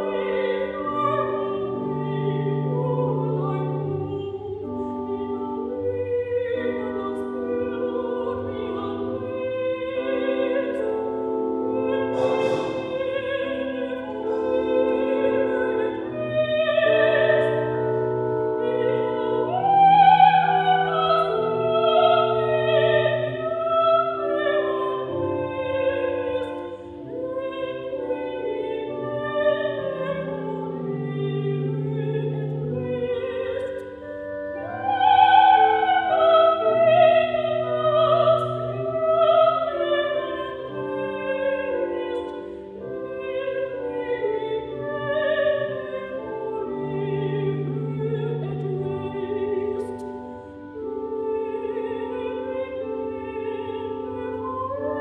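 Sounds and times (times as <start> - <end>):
choir singing sacred music: 0.0 - 55.0
soprano singing: 0.0 - 55.0.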